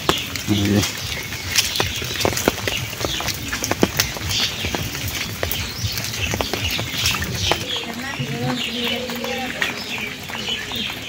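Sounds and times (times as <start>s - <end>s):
raindrops pattering into puddles: 0.0s - 11.0s.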